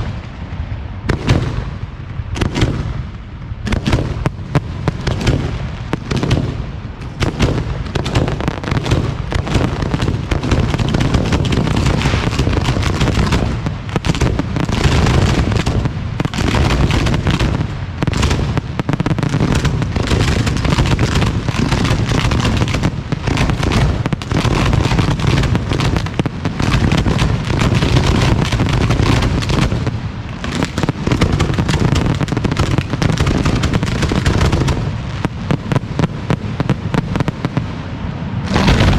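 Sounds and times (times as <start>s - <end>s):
firework shells launching and bursting: 3.7s - 37.5s, 38.4s - 38.9s.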